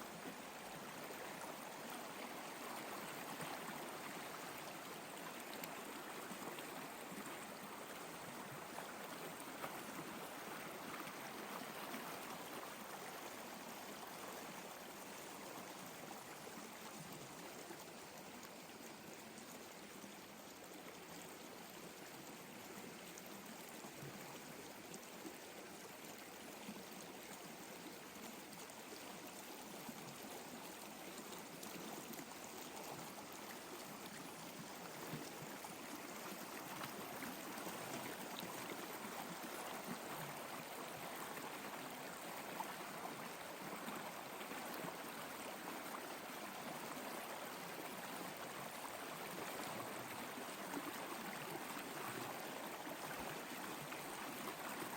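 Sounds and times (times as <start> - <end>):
flowing water: 0.0 - 54.9.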